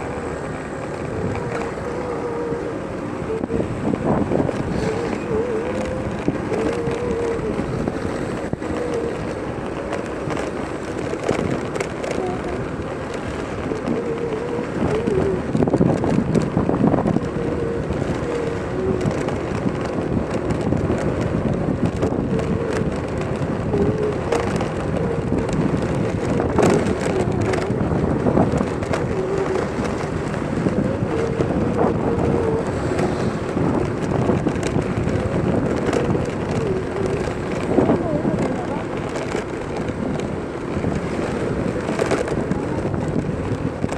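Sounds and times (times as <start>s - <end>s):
vehicle road noise: 0.0s - 43.9s
wind buffeting microphone: 0.0s - 43.9s.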